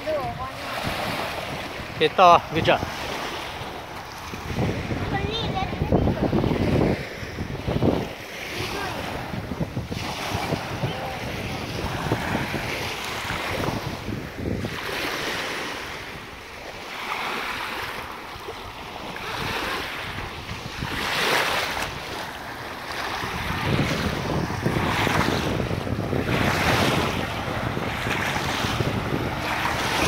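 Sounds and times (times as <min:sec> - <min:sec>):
wind buffeting microphone: 0:00.0 - 0:16.8, 0:17.4 - 0:30.0
waves washing onto pebbly shore: 0:00.0 - 0:30.0.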